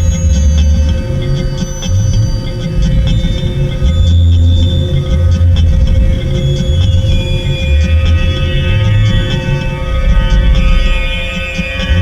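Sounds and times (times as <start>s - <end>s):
noise music drone: 0.0s - 12.0s.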